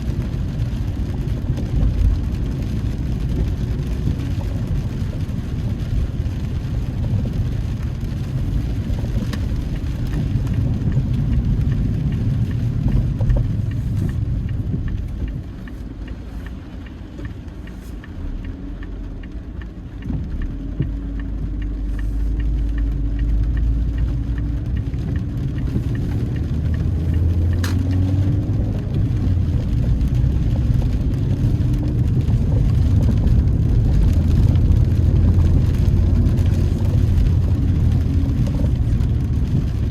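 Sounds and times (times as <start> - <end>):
car engine: 0.0 - 39.9
road noise inside car: 0.0 - 39.9.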